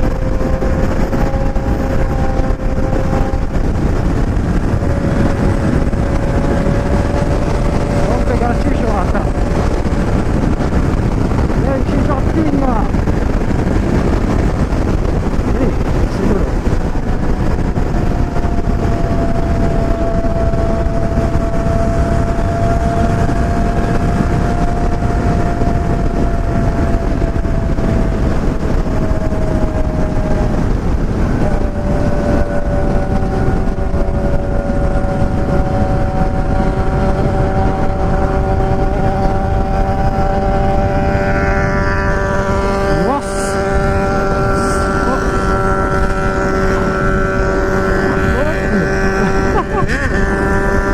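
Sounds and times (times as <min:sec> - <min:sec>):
motorcycle engine: 0:00.0 - 0:50.9
wind rush over microphone: 0:00.0 - 0:50.9.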